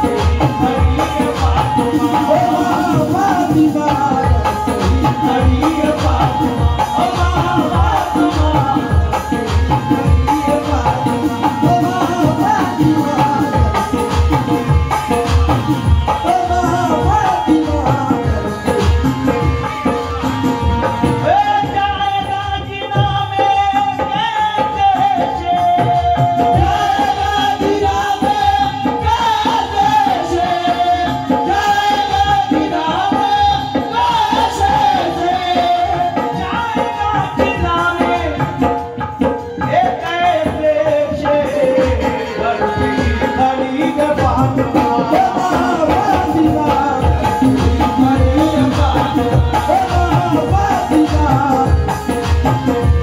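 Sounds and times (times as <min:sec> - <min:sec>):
hand drum: 0:00.0 - 0:53.0
harmonium: 0:00.0 - 0:53.0.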